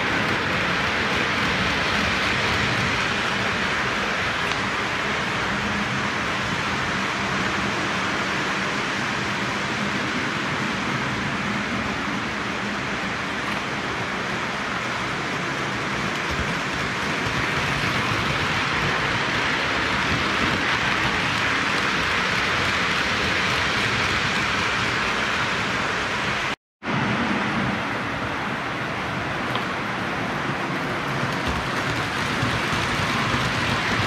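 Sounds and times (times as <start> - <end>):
toy train wheels rumbling hiss: 0.0 - 11.6, 12.8 - 26.5, 29.7 - 34.0.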